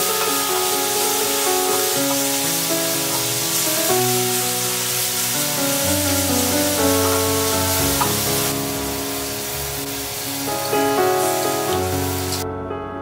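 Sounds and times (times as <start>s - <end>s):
mushrooms sizzling in a pan: 0.0s - 12.4s
background music of held notes: 0.0s - 13.0s.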